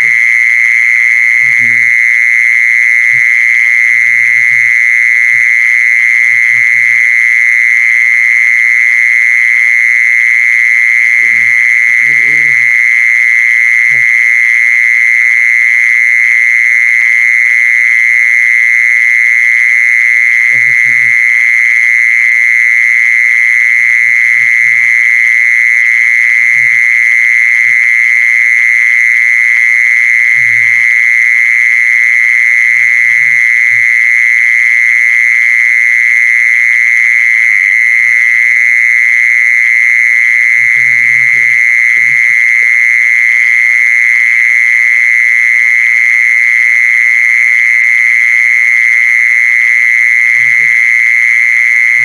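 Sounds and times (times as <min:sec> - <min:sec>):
insect trilling: 0:00.0 - 0:52.0.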